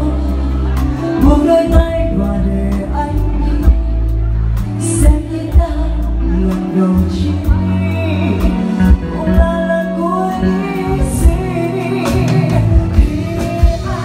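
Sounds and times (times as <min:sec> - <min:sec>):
live band playing slow song: 0:00.0 - 0:14.0
woman singing into microphone: 0:00.0 - 0:14.0.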